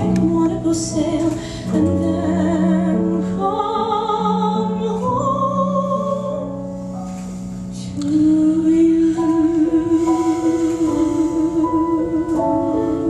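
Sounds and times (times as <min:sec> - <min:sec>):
woman singing with vibrato: 0:00.0 - 0:06.7, 0:07.8 - 0:13.0
piano accompaniment: 0:00.0 - 0:13.0.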